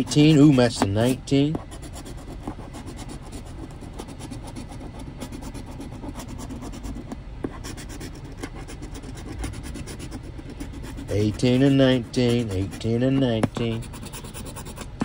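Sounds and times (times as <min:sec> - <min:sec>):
coin scratching a ticket: 0:00.0 - 0:07.0, 0:07.6 - 0:15.0
low steady rumble: 0:00.0 - 0:15.0.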